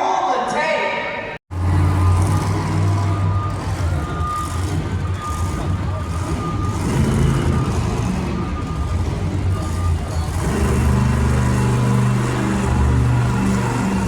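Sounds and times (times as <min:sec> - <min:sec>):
heavy vehicle engine rumbling: 0:01.5 - 0:14.0
reversing alarm beeping: 0:01.6 - 0:14.0.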